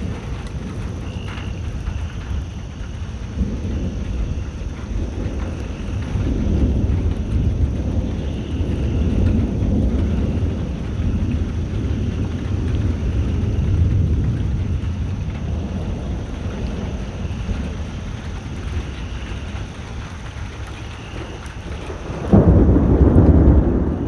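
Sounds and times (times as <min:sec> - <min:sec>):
rolling thunder: 0:00.0 - 0:24.0
steady rain: 0:00.0 - 0:24.0.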